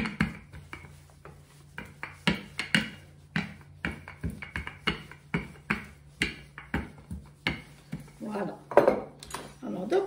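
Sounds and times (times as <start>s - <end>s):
rolling pin knocking on countertop: 0.0s - 9.2s.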